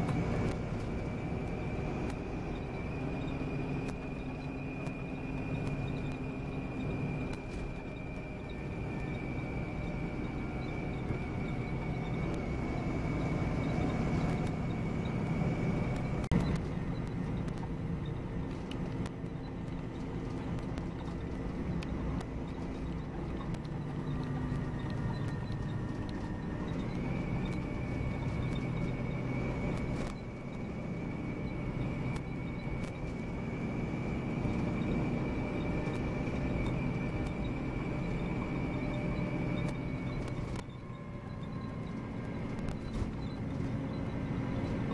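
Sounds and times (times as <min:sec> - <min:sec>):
coach engine and road noise: 0:00.0 - 0:44.9
high-pitched whine: 0:00.0 - 0:44.9.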